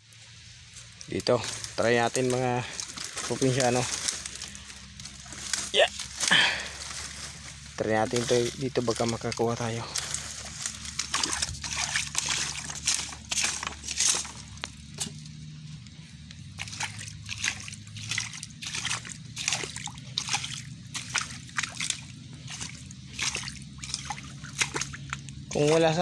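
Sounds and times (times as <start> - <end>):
person wading through muddy water: 0.1 - 26.0.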